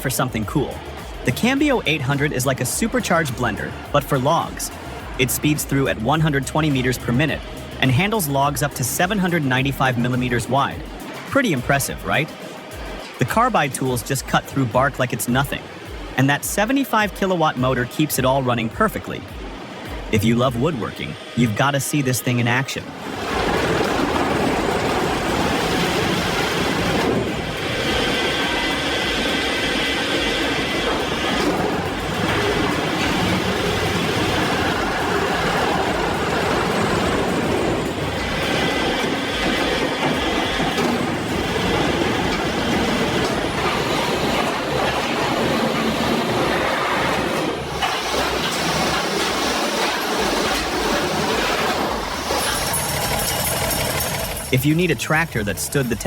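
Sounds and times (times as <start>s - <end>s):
log debarker running: 0.0s - 21.8s, 22.4s - 56.0s.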